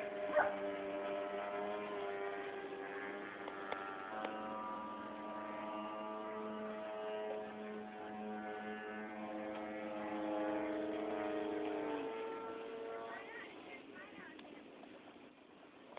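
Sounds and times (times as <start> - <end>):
model airplane engine running: 0.0 - 15.9.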